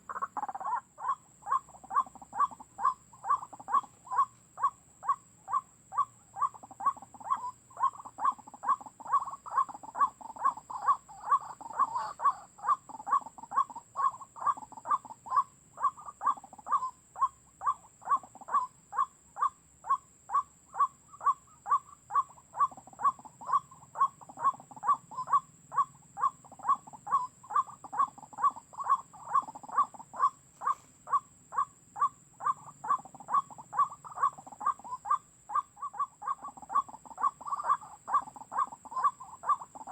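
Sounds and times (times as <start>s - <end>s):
waterhen calls: 0.0s - 39.9s.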